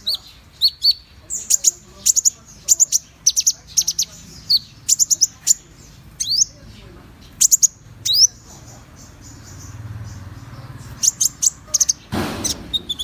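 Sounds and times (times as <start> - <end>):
sunbird high chirps: 0.0 - 13.0.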